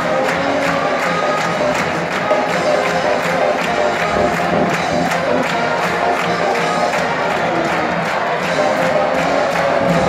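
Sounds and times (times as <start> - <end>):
arena crowd cheering: 0.0 - 10.0
pep band playing brass: 0.0 - 10.0.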